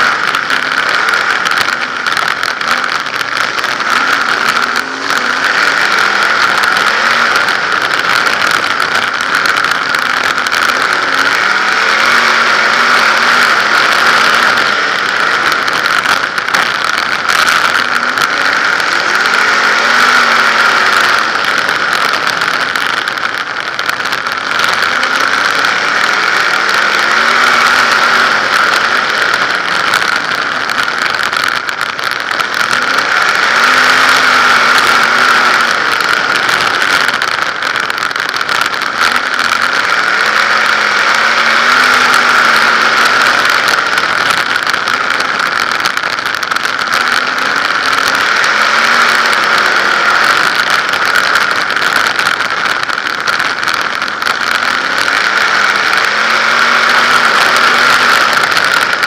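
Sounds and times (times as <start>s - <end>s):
loud steady hiss: 0.0s - 59.0s
race car engine at speed: 0.0s - 59.0s.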